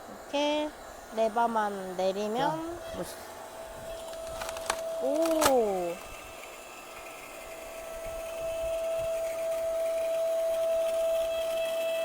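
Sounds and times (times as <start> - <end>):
hydraulic log splitter humming: 0.0 - 12.0.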